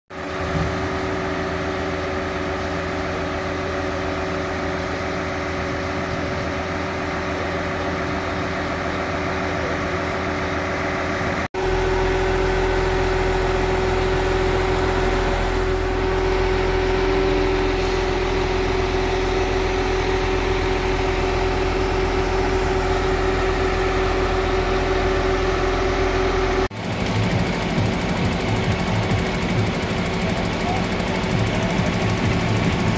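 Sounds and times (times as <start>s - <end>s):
concrete pump engine humming: 0.1s - 32.9s.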